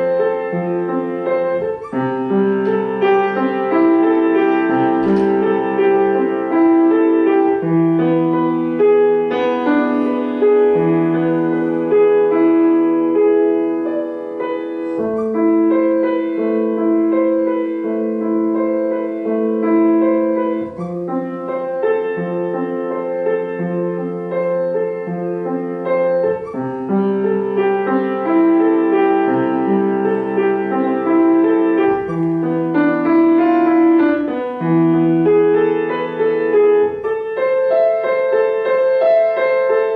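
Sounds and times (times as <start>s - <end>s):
slow solo piano piece: 0.0s - 39.9s.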